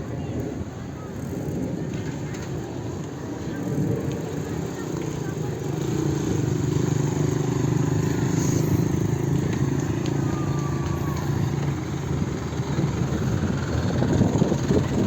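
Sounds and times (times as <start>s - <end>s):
street traffic: 0.0s - 15.0s
vehicle engine humming: 1.0s - 15.0s.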